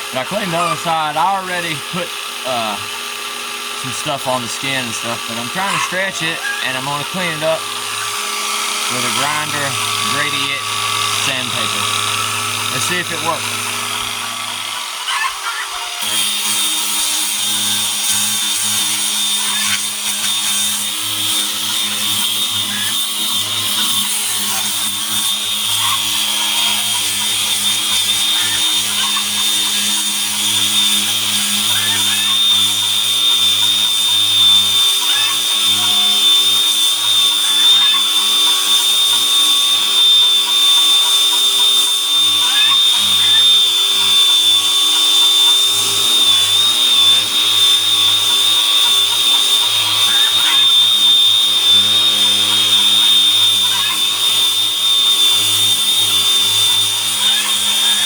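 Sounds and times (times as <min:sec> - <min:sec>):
grinder sanding hide: 0:00.0 - 0:58.0.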